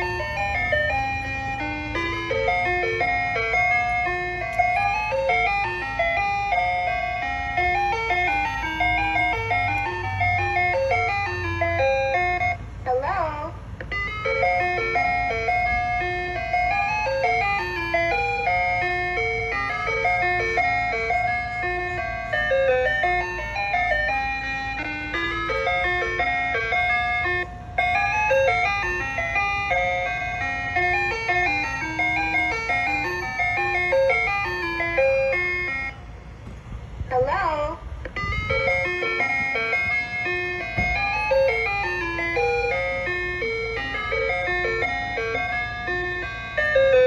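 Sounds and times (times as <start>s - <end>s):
ice cream truck chime melody: 0.0s - 47.0s.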